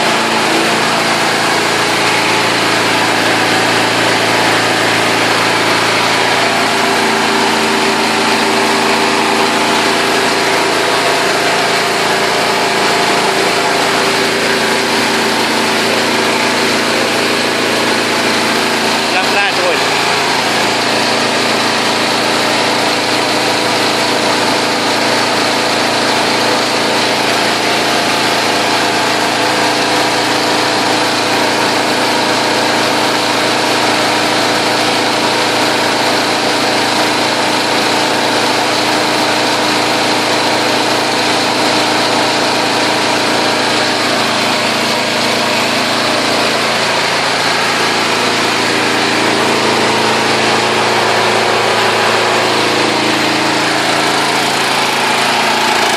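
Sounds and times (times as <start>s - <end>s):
drilling machine engine running: 0.0s - 55.9s.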